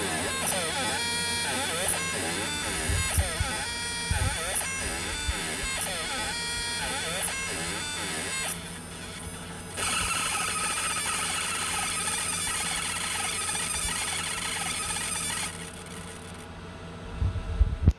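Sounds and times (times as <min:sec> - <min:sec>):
laser engraver whine: 0:00.0 - 0:16.5
quiet machine noise: 0:00.0 - 0:17.9.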